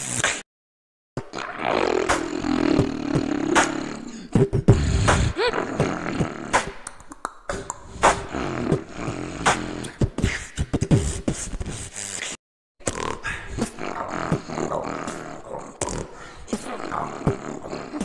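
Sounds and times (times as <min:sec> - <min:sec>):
beatboxing: 0:00.0 - 0:00.4, 0:01.2 - 0:18.0.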